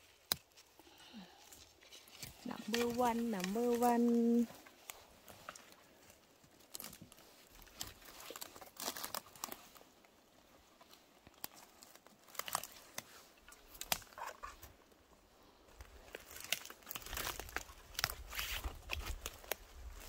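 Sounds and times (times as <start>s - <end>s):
twigs snapping: 0.0s - 9.8s, 10.8s - 14.7s, 15.8s - 20.0s
forest litter crunching: 0.0s - 20.0s.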